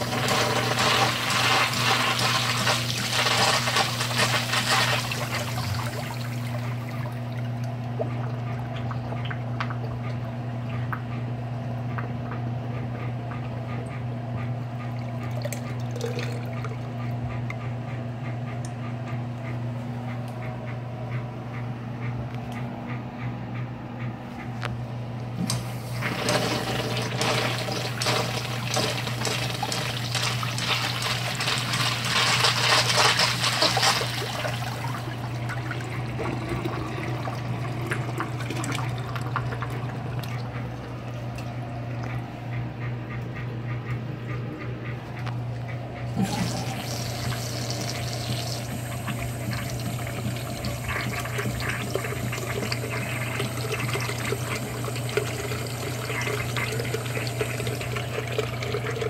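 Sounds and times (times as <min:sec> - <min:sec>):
urinal flushing: 0:00.0 - 0:20.7, 0:25.3 - 0:44.4, 0:45.1 - 0:59.0
steady low hum: 0:00.0 - 0:32.3, 0:32.9 - 0:59.0.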